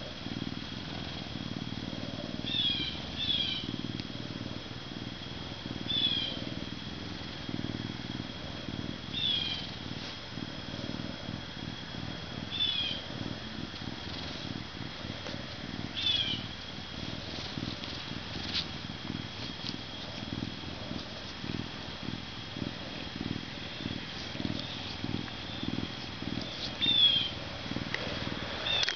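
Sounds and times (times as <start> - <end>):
lynx purring: 0.0 - 28.9.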